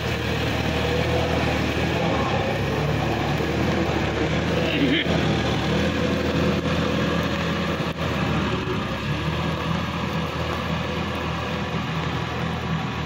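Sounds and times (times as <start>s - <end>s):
tractor diesel engine running: 0.0s - 13.0s
water and mud splashing: 0.0s - 13.0s.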